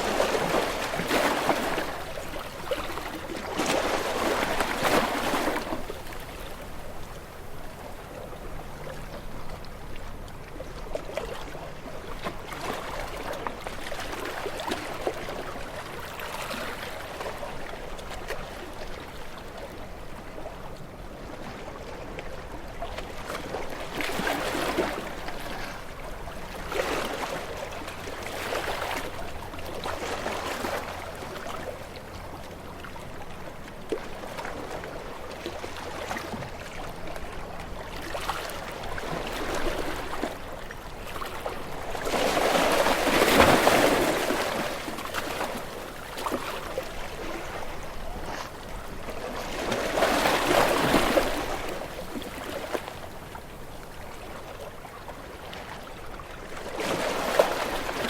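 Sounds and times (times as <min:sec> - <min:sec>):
ocean waves breaking: 0:00.0 - 0:10.1, 0:21.2 - 0:58.0.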